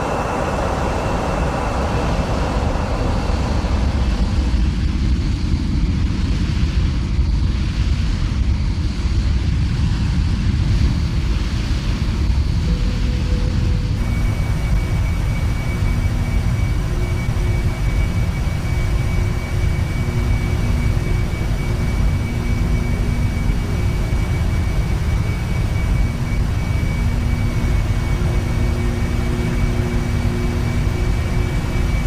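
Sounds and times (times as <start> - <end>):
faint high whine: 0.0 - 5.9, 11.6 - 32.0
jet engines low rumble: 0.0 - 32.0.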